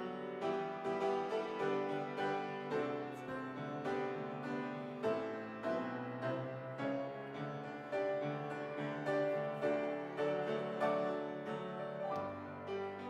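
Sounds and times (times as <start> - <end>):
grand piano playing: 0.0 - 13.0.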